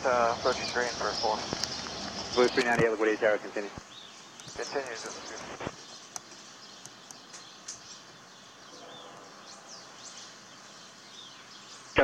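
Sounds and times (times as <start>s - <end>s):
birds chirping: 0.0s - 12.0s
faint background noise: 0.0s - 12.0s.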